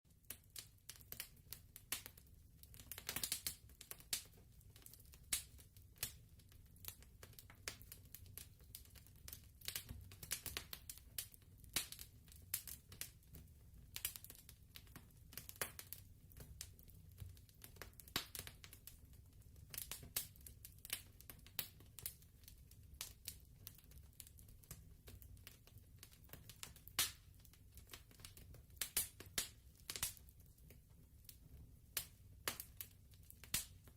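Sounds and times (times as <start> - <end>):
fireplace fire crackling: 0.1 - 33.9.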